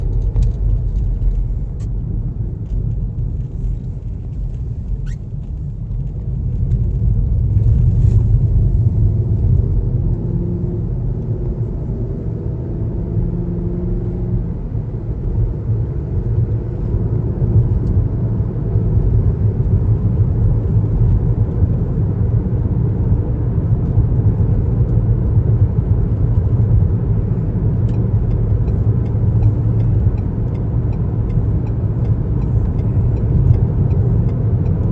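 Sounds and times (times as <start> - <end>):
car tyres and engine rumble: 0.0 - 34.9.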